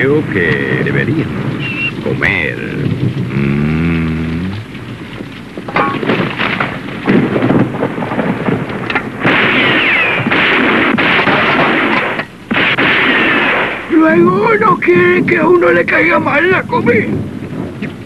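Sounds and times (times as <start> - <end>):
heavy rain: 0.0 - 18.0
rolling thunder: 0.0 - 18.0.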